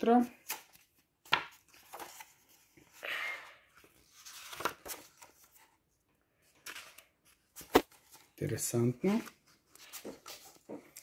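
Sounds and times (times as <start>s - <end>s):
book pages turning: 0.4s - 3.0s, 3.8s - 5.8s, 6.4s - 11.0s.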